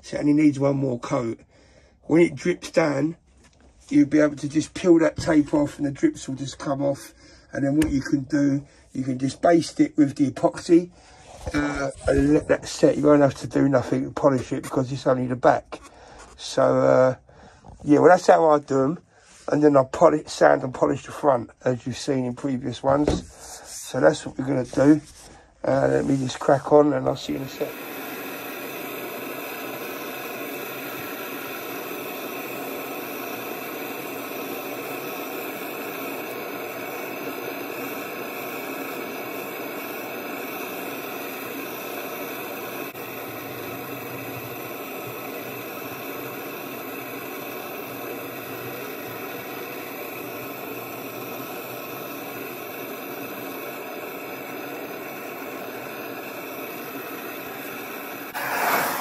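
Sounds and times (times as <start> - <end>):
steady whirring hiss with hum: 2.0 - 59.0.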